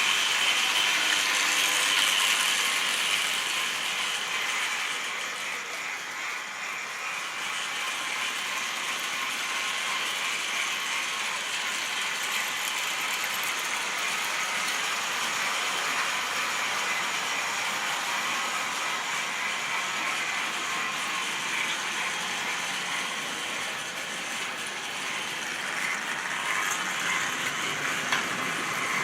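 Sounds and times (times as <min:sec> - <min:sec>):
model train whirring rattle: 0:00.0 - 0:29.0.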